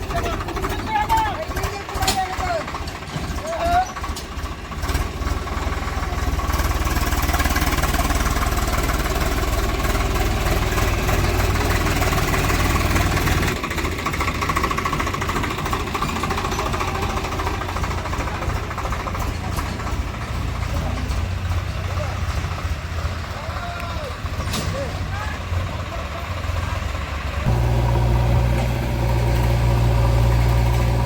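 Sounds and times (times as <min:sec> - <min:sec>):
diesel engine knocking clatter: 0:00.0 - 0:31.0.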